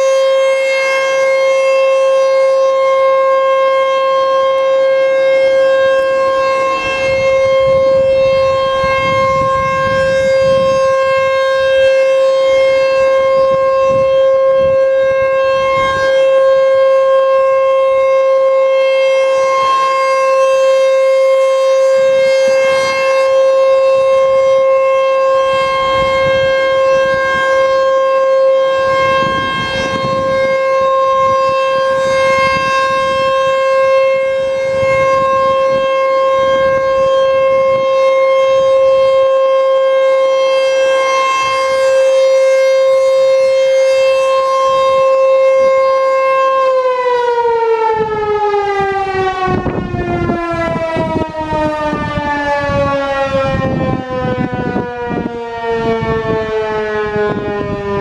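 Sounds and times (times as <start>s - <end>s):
warning siren steady tone: 0.0s - 58.0s.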